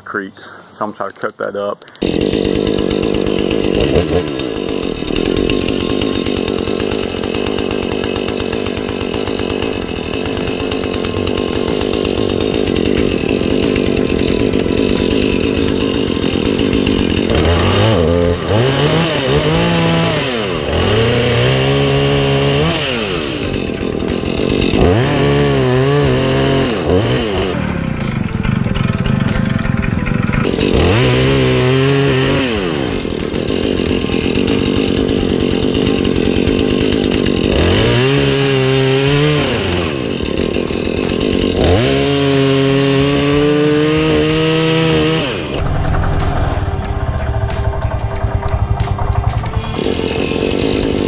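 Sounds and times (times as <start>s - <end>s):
chainsaw cutting wood: 1.8s - 51.0s.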